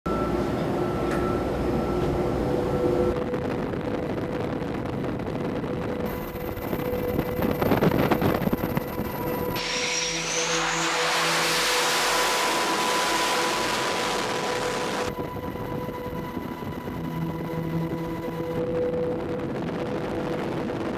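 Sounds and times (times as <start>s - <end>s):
machinery humming: 0.1s - 20.9s
jet engines roaring: 3.0s - 20.9s.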